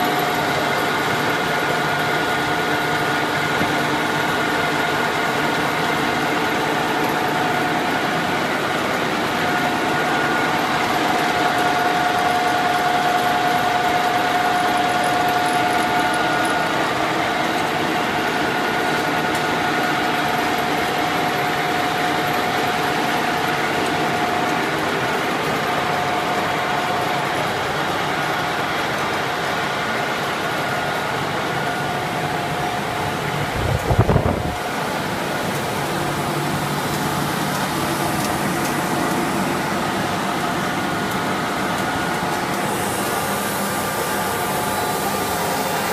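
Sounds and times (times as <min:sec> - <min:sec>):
industrial machine drone: 0:00.0 - 0:45.9.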